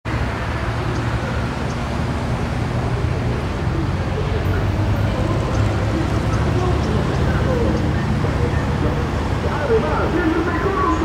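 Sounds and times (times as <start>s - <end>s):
diesel locomotive engine rumble: 0.1s - 11.0s.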